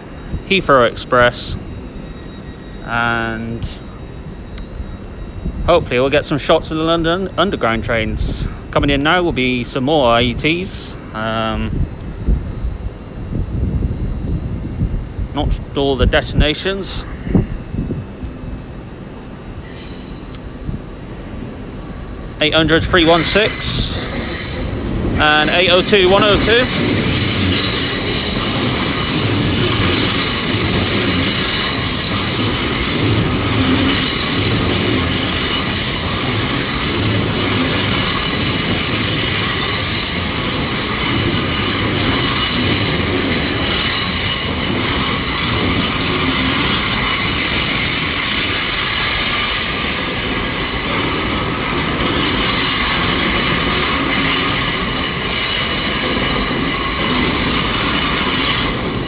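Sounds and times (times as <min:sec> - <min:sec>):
high-pitched train whine: 0:00.0 - 0:59.0
train low rumble: 0:00.0 - 0:59.0.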